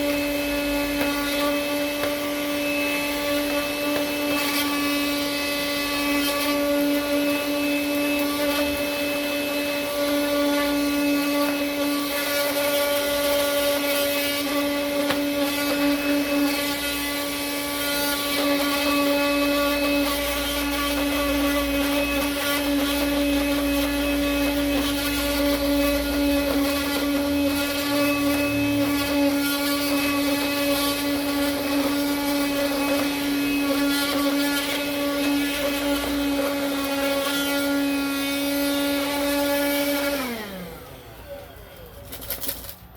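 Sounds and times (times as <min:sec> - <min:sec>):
vacuum cleaner motor whine: 0:00.0 - 0:42.0.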